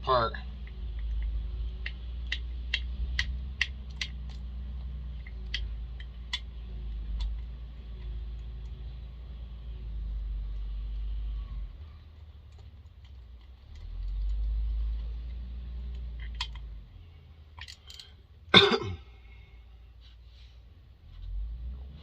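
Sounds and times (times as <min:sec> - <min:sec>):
rumble of handling tools: 0:00.0 - 0:22.0.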